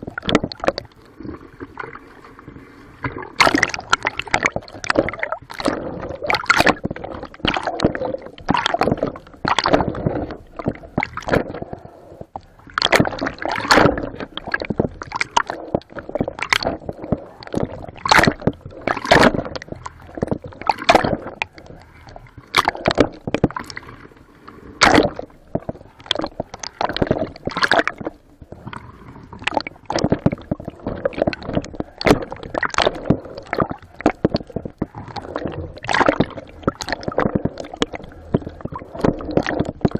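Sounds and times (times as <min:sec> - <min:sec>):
water splashing and gurgling: 0:00.0 - 0:39.9.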